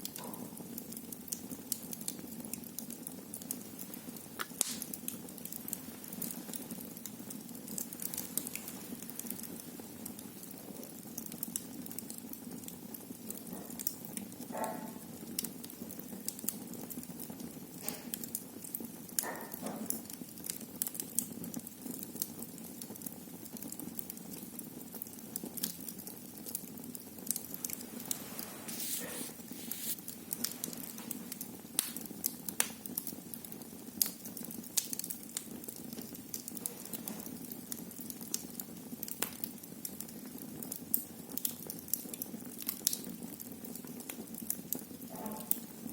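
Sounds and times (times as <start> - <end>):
fire crackling and popping: 0.0 - 45.9
high hisses from burning logs: 0.0 - 45.9
low hiss of fire: 0.0 - 45.9.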